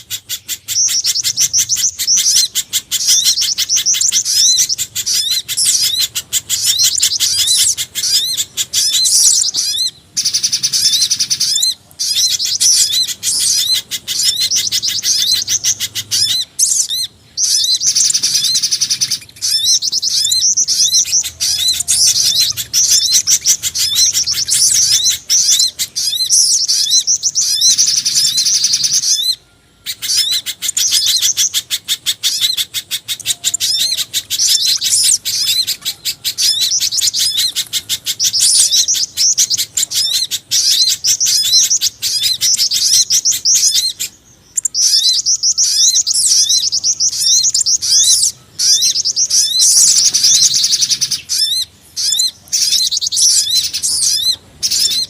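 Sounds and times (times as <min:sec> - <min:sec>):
rapid high-pitched bird chirps: 0:00.0 - 0:55.0.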